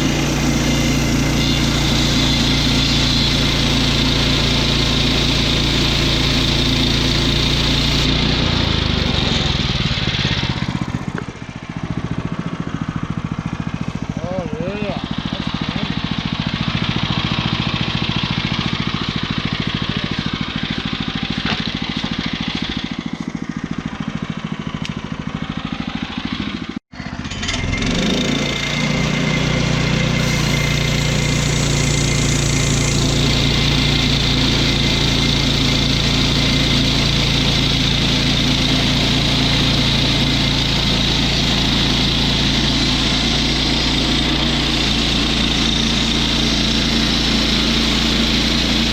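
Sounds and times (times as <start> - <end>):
small gasoline engine running: 0.0 - 48.9.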